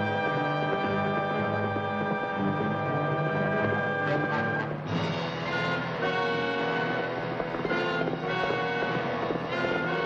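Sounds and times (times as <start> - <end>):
orchestral music: 0.0 - 10.0.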